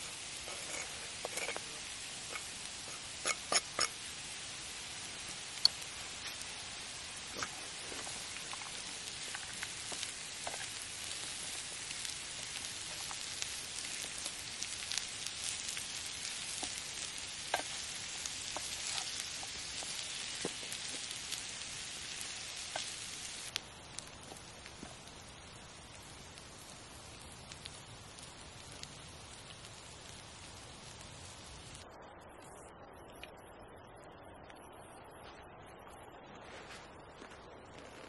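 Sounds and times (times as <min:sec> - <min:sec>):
vegetables sizzling in a pan: 0:00.0 - 0:31.8.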